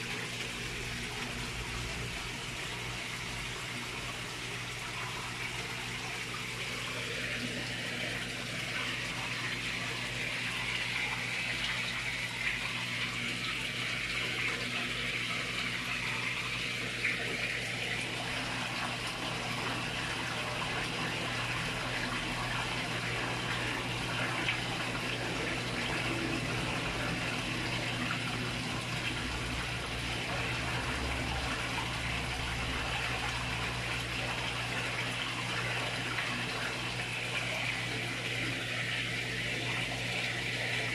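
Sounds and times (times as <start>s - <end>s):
rushing pond water: 0.0s - 40.9s.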